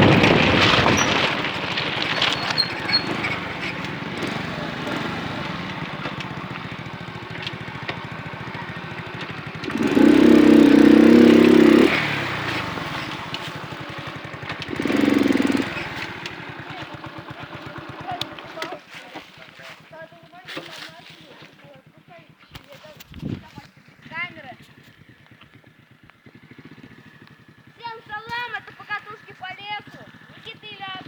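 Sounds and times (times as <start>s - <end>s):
moped engine running: 0.0s - 31.0s.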